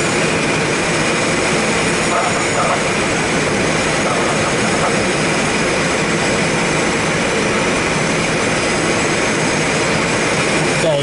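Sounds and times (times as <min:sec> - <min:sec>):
airflow rushing over glider: 0:00.0 - 0:11.0.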